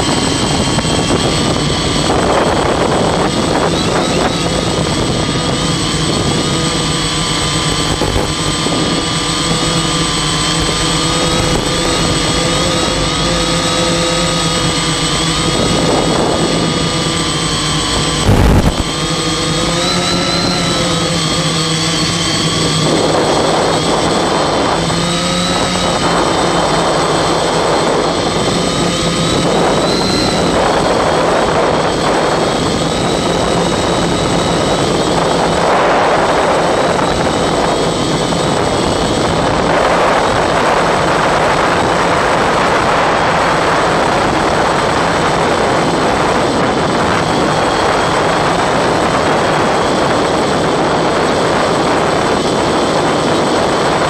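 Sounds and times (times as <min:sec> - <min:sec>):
drone motors and propellers whirring: 0:00.0 - 0:54.0
wind noise on microphone: 0:00.0 - 0:54.0.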